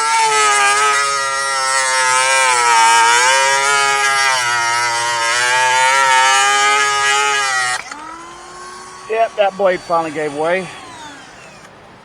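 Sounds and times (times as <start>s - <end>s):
rotary tool grinding metal: 0.0s - 11.8s.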